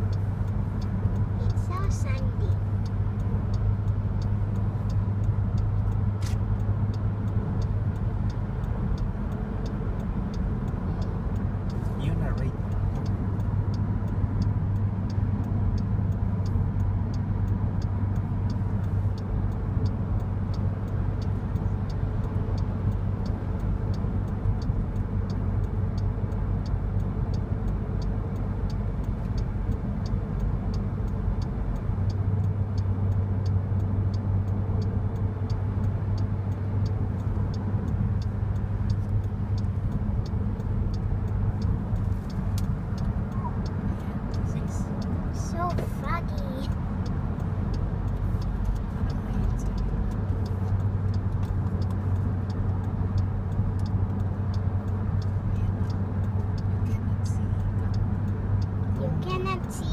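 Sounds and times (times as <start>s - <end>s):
car cabin road noise: 0.0s - 59.9s
light regular ticking: 0.0s - 59.9s.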